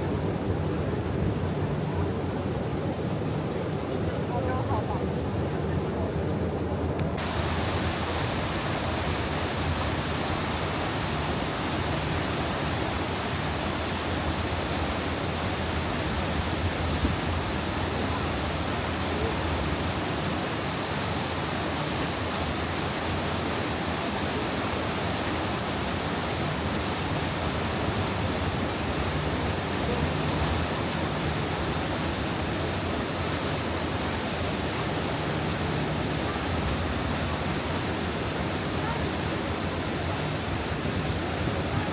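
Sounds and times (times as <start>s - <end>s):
water rushing: 0.0s - 41.9s.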